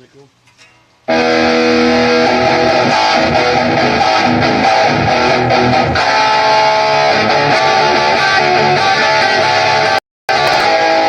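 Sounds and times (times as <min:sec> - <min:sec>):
electric guitar strumming chords: 0:01.1 - 0:11.0.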